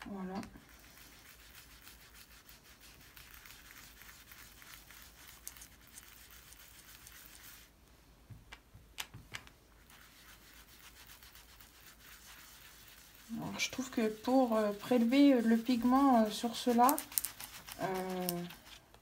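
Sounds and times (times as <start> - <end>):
foam pad rubbing on paper: 0.6 - 7.8, 9.8 - 18.8.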